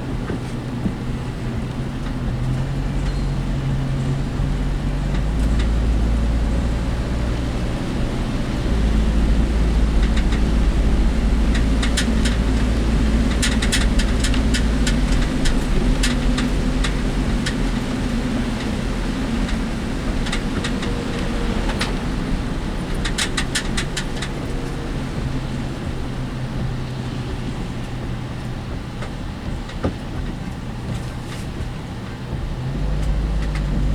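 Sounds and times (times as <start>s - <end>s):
engine and road rumble: 0.0s - 33.9s
vehicle clicks and rattles: 0.0s - 33.9s.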